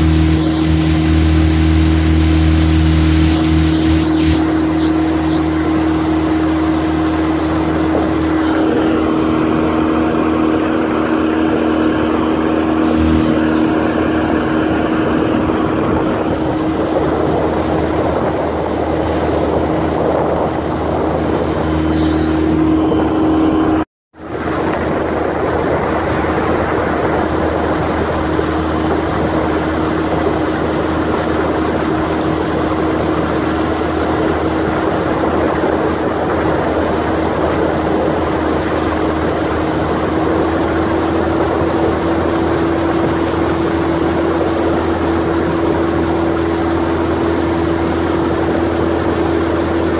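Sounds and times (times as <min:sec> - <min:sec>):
outboard engine humming: 0:00.0 - 0:49.9
wind and water rushing: 0:00.0 - 0:49.9.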